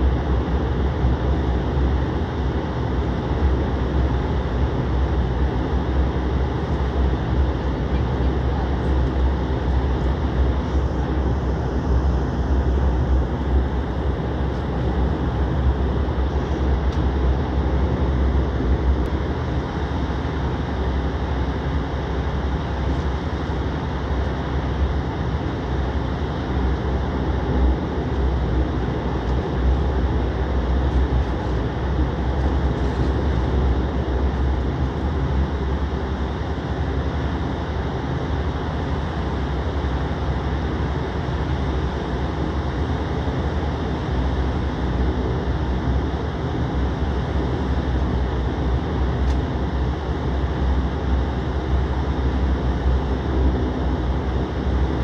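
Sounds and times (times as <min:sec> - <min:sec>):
airliner cabin rumble and hiss: 0:00.0 - 0:55.0.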